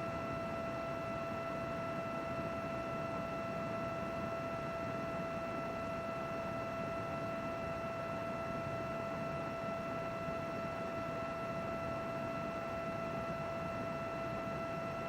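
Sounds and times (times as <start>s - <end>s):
computer fan whir: 0.0s - 15.0s
constant high whine: 0.0s - 15.0s.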